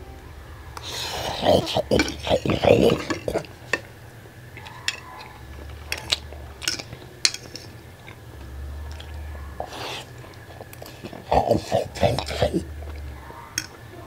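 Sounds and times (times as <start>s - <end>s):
person chewing: 0.8s - 13.9s.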